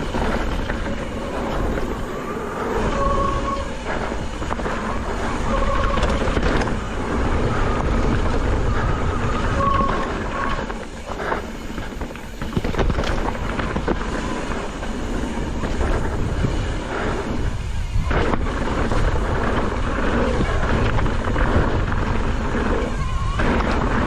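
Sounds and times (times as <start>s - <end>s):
bike knocking and rattling: 0.0s - 24.0s
tyres on dirt trail: 0.0s - 24.0s
wind rushing over microphone: 0.0s - 24.0s.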